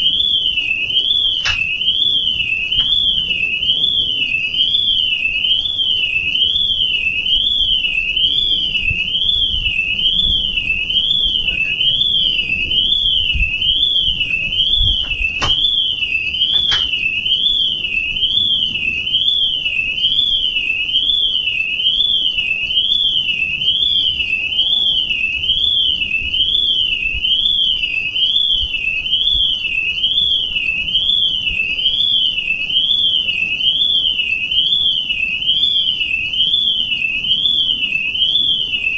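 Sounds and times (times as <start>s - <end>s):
electronic alarm tone warbling: 0.0s - 38.9s.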